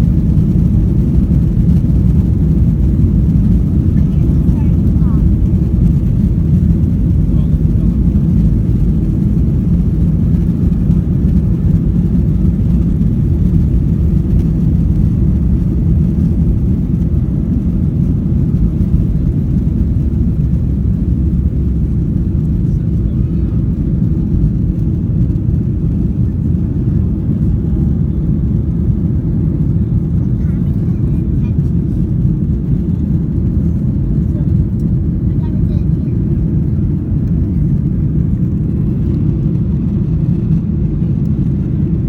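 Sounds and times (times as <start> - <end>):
airliner cabin engine rumble: 0.0 - 42.0.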